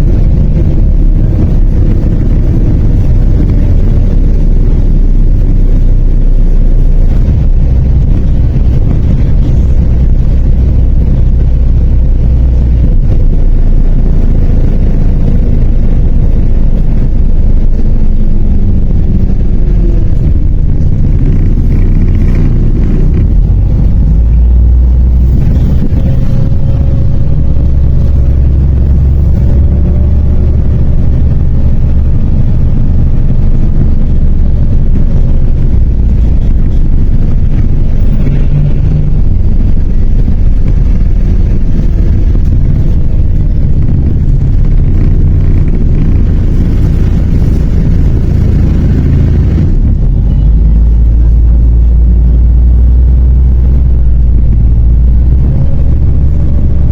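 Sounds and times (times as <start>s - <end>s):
bus engine and road rumble: 0.0s - 56.9s.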